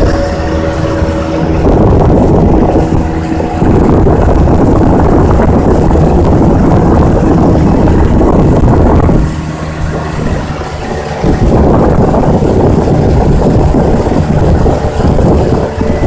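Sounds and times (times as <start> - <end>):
boat motor running: 0.0 - 16.0
wind buffeting microphone: 0.0 - 16.0.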